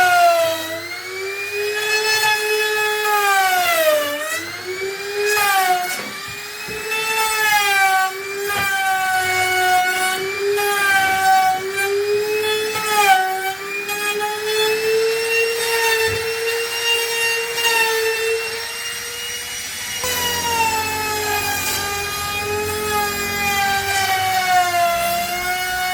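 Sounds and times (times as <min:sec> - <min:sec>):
power tool cutting wood: 0:00.0 - 0:25.9.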